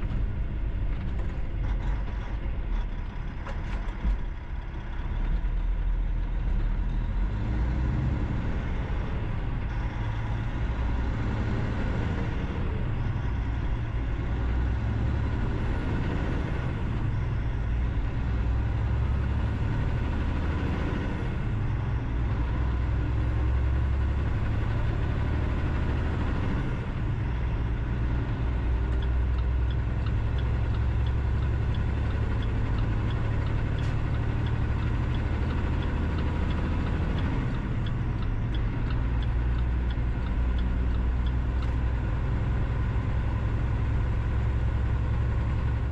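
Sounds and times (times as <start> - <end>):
vehicle driving on highway: 0.0 - 45.9.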